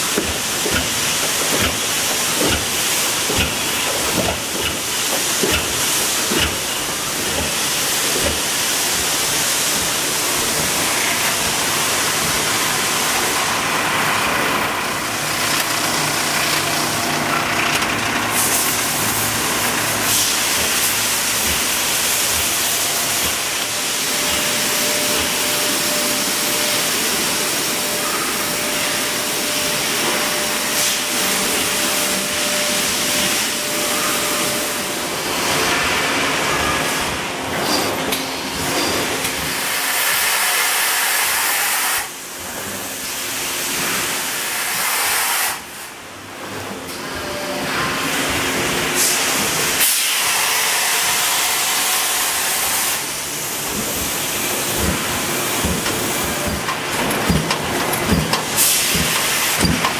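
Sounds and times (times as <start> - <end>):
loud factory machinery hiss: 0.0 - 59.9.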